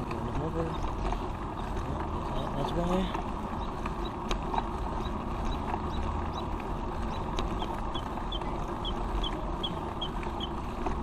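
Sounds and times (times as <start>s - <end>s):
bicycle rolling rumble: 0.0s - 11.0s
wind: 0.0s - 11.0s.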